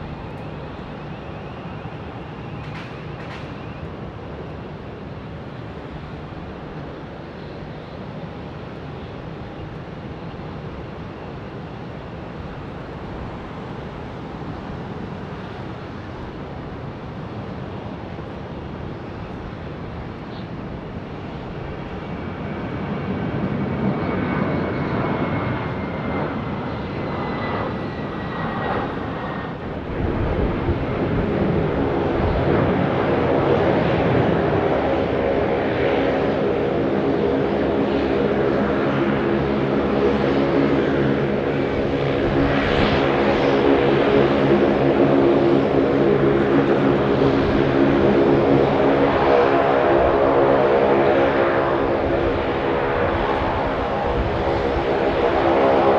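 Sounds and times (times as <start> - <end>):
jet airliner engine whine: 0.0 - 55.9
jet drone: 0.0 - 55.9.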